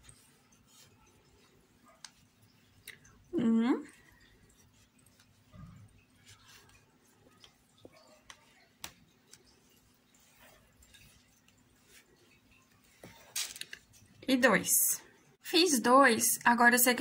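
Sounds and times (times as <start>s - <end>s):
faint yarn rustling: 0.0s - 15.4s.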